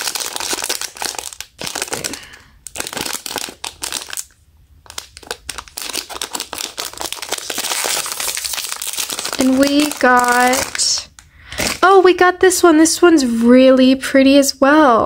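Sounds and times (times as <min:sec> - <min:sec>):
foil bag crinkling: 0:00.0 - 0:12.3.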